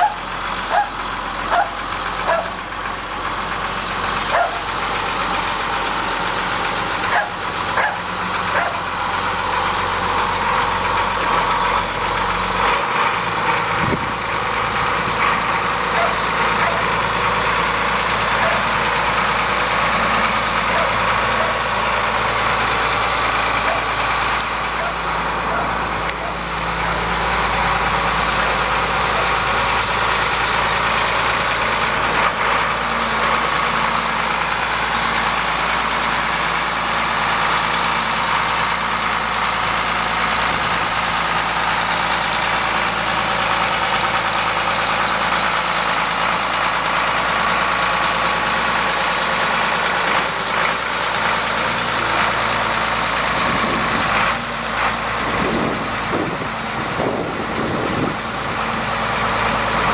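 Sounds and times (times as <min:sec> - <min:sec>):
tractor diesel engine driving past: 0:00.0 - 0:59.9.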